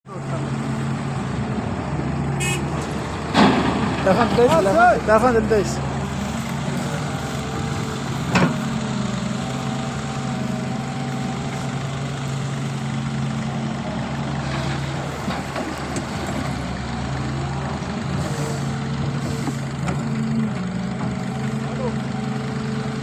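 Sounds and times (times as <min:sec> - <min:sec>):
heavy diesel engine running: 0:00.1 - 0:23.0.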